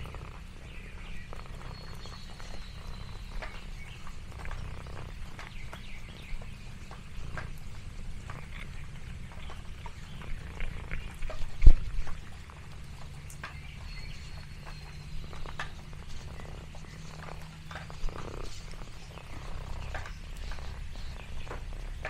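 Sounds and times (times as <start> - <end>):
cat purring: 0.0 - 22.0
light clicks and rustles: 1.1 - 22.0.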